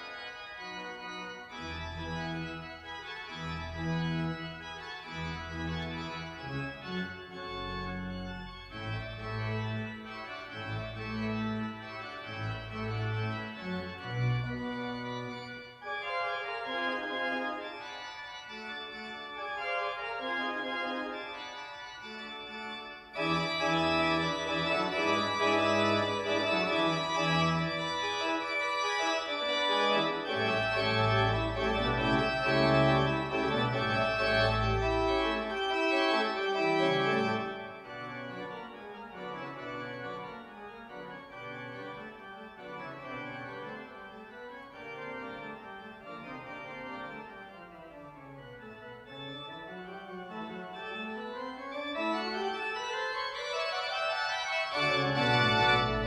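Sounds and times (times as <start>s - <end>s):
pipe organ chords: 0.0s - 56.0s.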